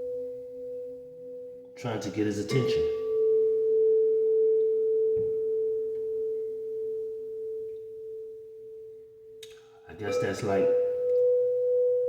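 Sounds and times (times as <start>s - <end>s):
steady pure tone: 0.0s - 12.0s.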